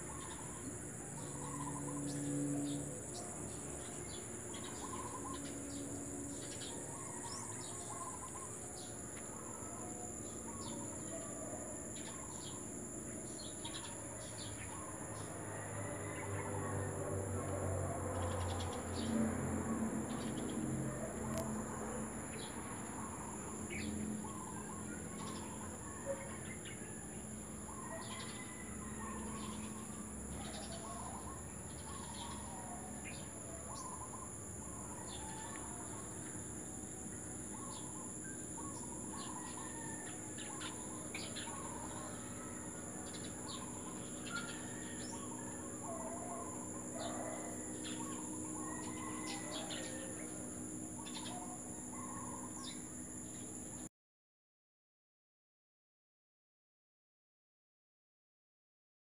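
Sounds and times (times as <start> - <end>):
birds chirping and calling: 0.0 - 16.2, 17.4 - 53.6
steady high-pitched whine: 0.0 - 53.9.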